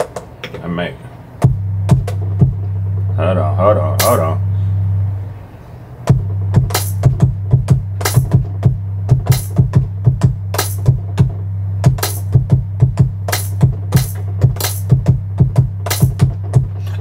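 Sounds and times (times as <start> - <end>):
hip-hop beat from speakers: 0.0 - 4.5, 6.0 - 17.0.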